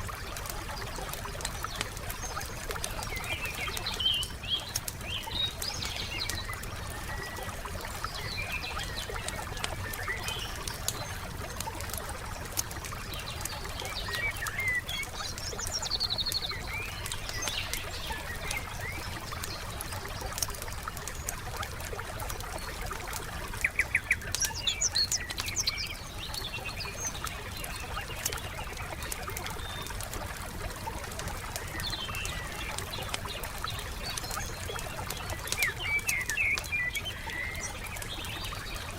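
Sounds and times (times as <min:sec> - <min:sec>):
campfire crackling: 0:00.0 - 0:38.9
songbirds chirping: 0:00.0 - 0:38.9.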